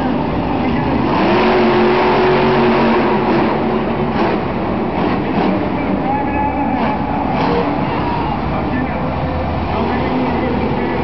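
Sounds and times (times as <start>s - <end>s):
truck engine running at high revs: 0.0s - 11.0s.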